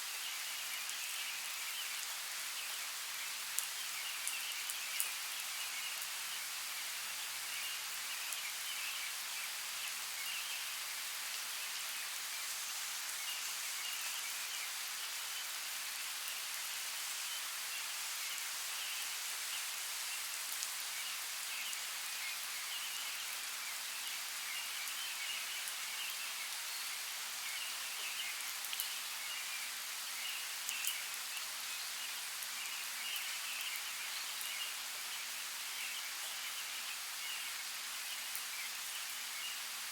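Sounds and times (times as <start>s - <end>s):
steady hiss of water: 0.0s - 39.9s.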